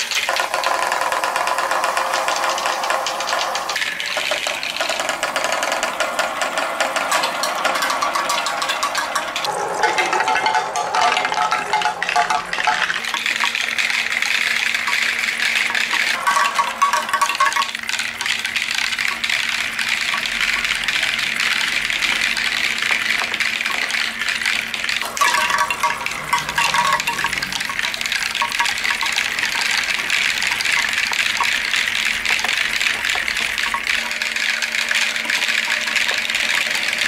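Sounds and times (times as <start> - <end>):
balls rolling and rattling: 0.0 - 37.0
water splashing down plastic slides: 0.0 - 37.0.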